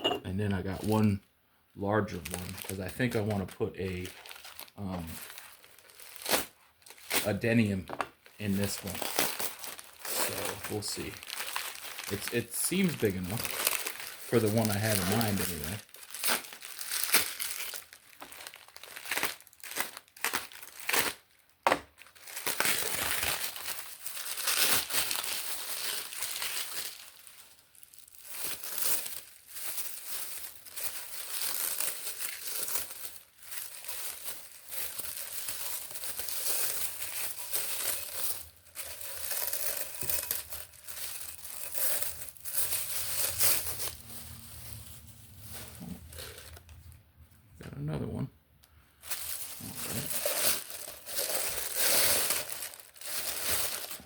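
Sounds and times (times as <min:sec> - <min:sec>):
packing material crinkling: 0:02.0 - 0:47.0, 0:48.9 - 0:54.0.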